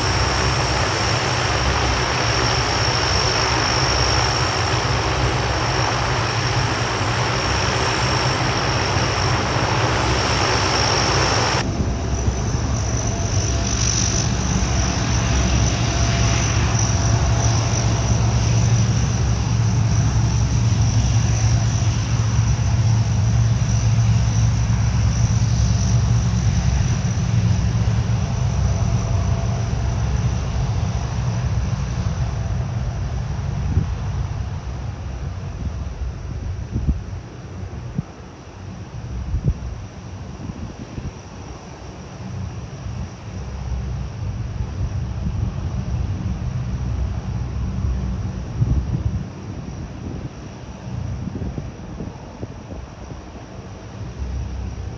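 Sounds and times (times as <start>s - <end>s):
high engine whine: 0.0s - 54.9s
turboprop engines droning: 0.0s - 54.9s.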